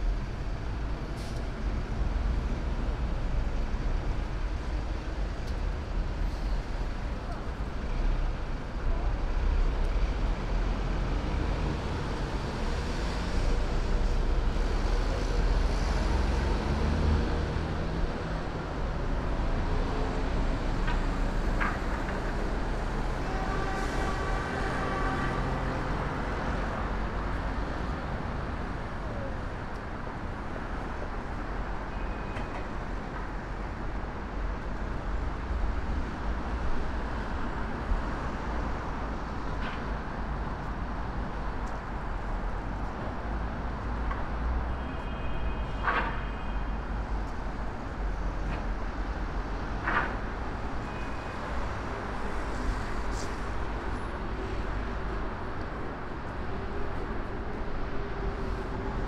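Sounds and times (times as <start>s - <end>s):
passing cars and buses: 0.0s - 59.0s.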